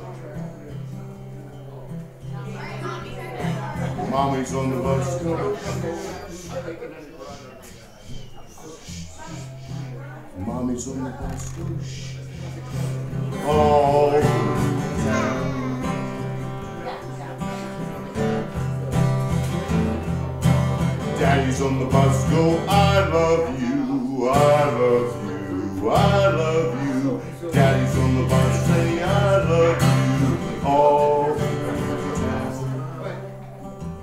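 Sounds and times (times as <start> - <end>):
strummed acoustic guitar: 0.0 - 34.0.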